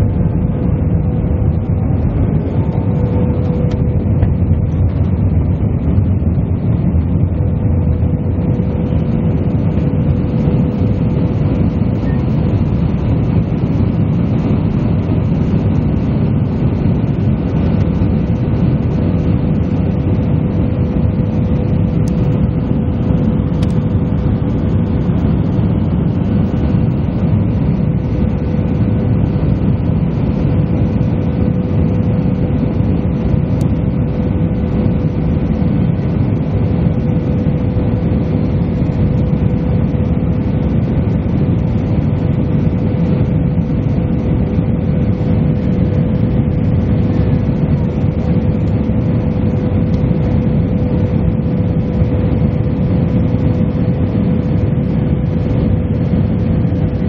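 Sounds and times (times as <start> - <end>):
constant tone: 0.0 - 57.0
jet cabin rumble: 0.0 - 57.0.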